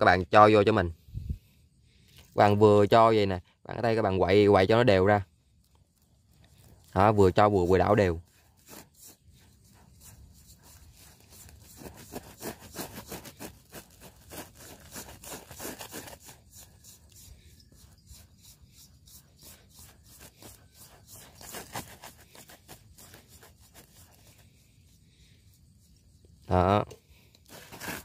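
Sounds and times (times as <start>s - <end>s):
hand kneading damp bait: 4.0s - 28.0s.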